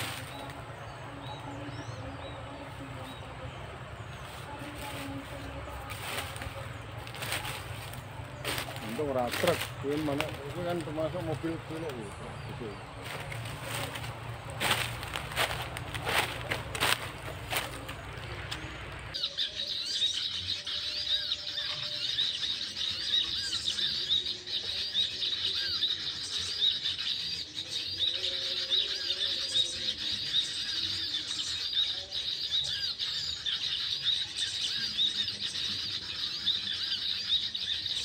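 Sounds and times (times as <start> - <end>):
small songbird chirping: 0.0 - 38.0.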